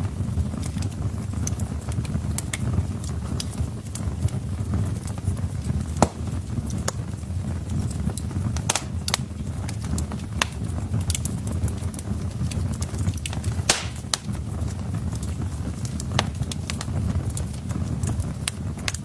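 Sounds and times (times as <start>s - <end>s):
low rumble of burning logs: 0.0s - 19.0s
wood fire crackling: 0.0s - 19.0s.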